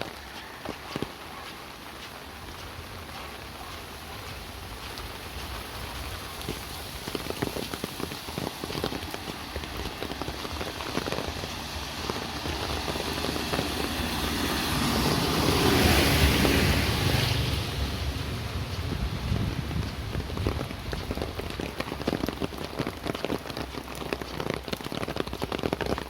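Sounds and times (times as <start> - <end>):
rain pattering: 0.0 - 26.0
vehicle passing on wet road: 0.0 - 26.0.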